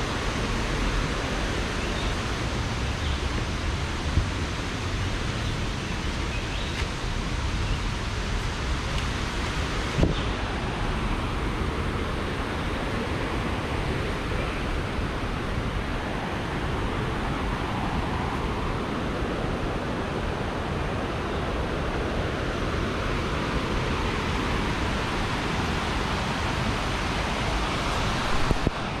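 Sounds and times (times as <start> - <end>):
water rushing over rocks: 0.0 - 29.0.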